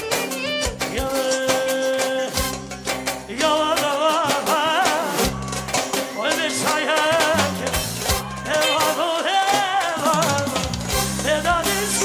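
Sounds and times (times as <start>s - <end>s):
upbeat band music: 0.0s - 12.0s.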